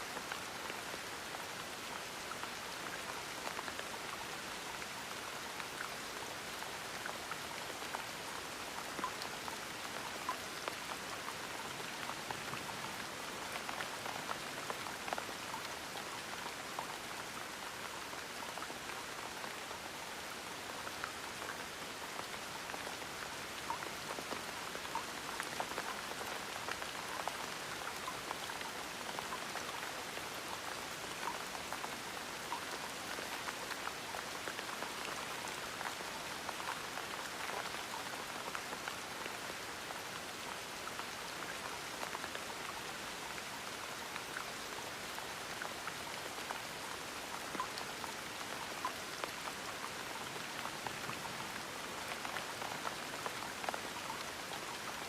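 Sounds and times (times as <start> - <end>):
gentle rain pattering: 0.0 - 55.0.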